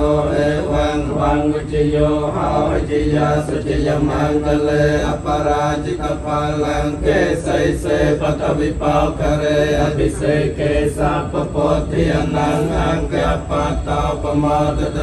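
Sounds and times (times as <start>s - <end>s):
monks chanting: 0.0s - 15.0s.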